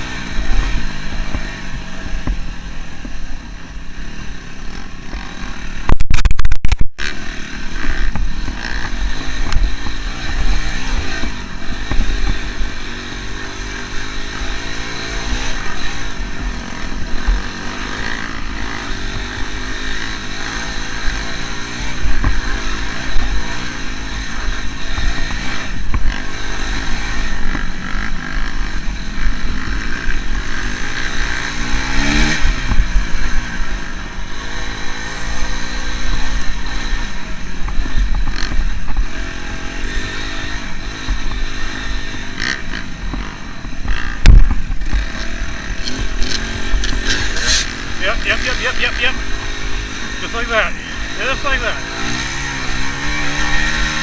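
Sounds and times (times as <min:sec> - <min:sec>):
dirt bike engine revving: 0:00.0 - 0:06.3, 0:07.0 - 0:54.0.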